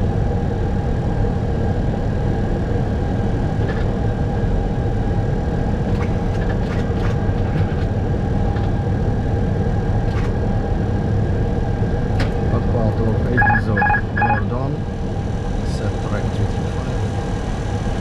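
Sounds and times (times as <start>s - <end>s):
aircraft cockpit rumble: 0.0s - 18.0s
constant hum: 0.0s - 18.0s.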